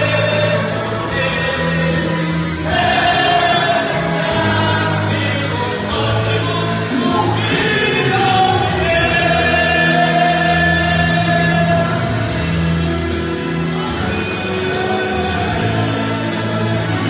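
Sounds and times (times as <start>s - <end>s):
band accompaniment: 0.0s - 17.0s
choir singing gospel song: 0.0s - 17.0s.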